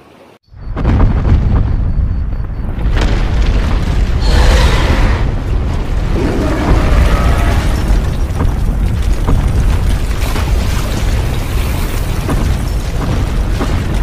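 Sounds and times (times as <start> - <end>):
booming hits: 0.6 - 14.0
deep rumble: 0.6 - 14.0.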